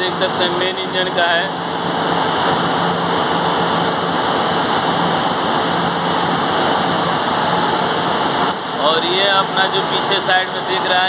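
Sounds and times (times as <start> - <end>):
engine room machinery roar: 0.0 - 11.0.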